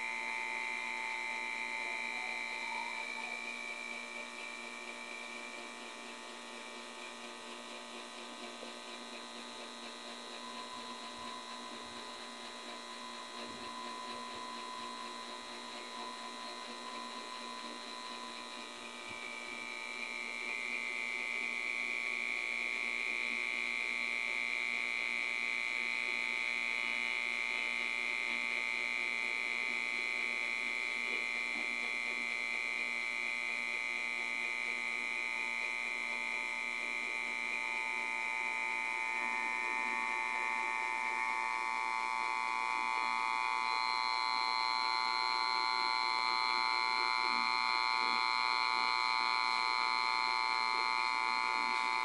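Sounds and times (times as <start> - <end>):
tesla coil electrical buzz: 0.0 - 52.0.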